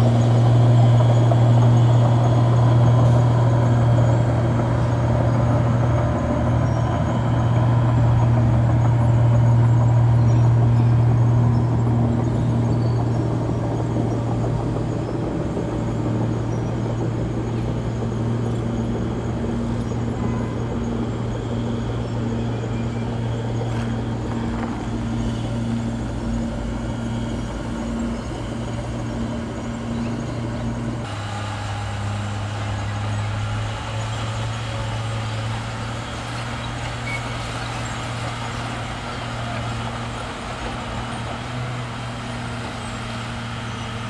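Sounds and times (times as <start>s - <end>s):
bulldozer diesel engine running: 0.0s - 44.0s.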